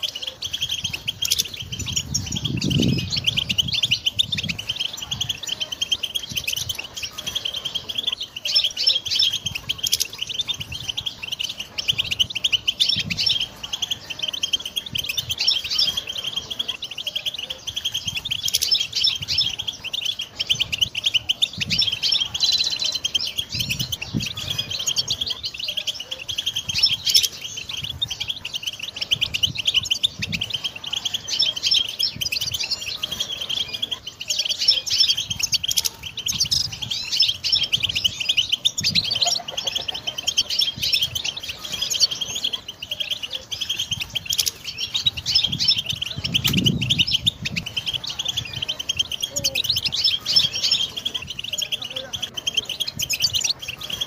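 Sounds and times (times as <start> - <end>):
goldfinch twittering and trilling: 0.0 - 54.0.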